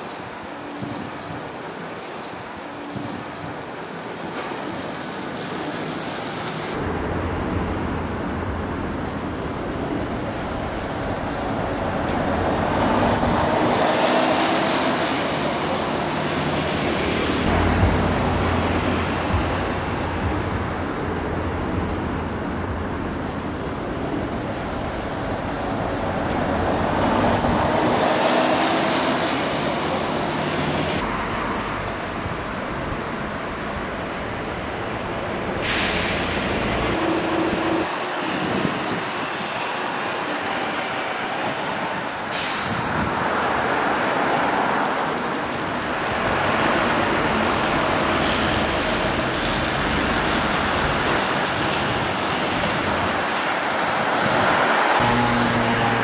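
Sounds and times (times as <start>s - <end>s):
low traffic rumble: 0.0s - 56.0s
vehicles passing: 0.0s - 56.0s.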